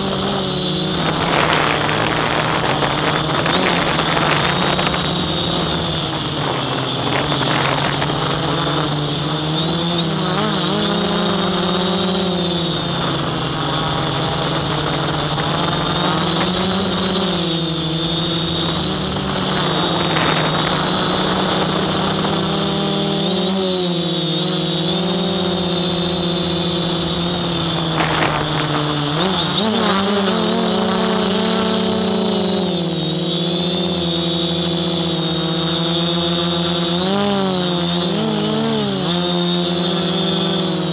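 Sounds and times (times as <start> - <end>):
drone propellers buzzing: 0.0 - 40.9
thin high whine: 0.0 - 40.9.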